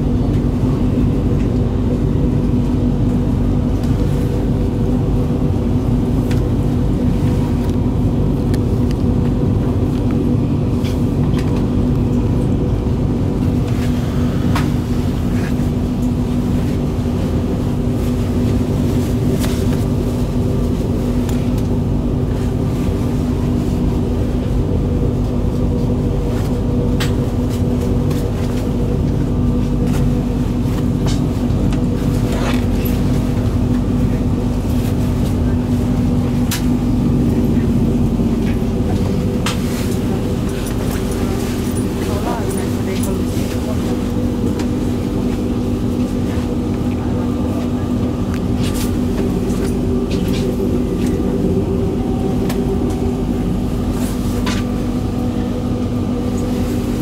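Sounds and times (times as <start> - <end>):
steady hum: 0.0 - 57.0
train cabin rumble: 0.0 - 57.0.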